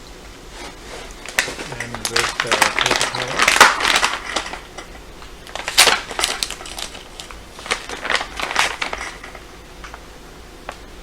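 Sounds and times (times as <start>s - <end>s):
supplies crinkling and rustling: 0.3s - 10.9s.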